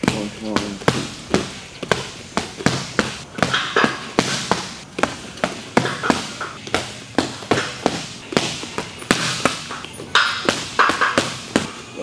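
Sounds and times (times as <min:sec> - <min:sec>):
boxing gloves punching: 0:00.0 - 0:12.0.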